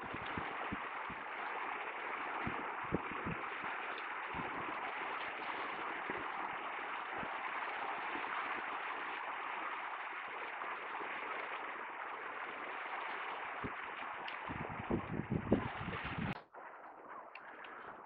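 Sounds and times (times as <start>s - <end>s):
small waves breaking on beach: 0.0s - 16.4s.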